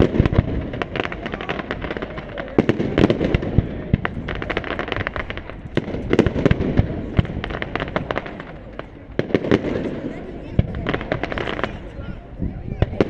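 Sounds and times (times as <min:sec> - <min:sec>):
fireworks bangs and pops: 0:00.0 - 0:13.0
low firework booms: 0:00.0 - 0:13.0.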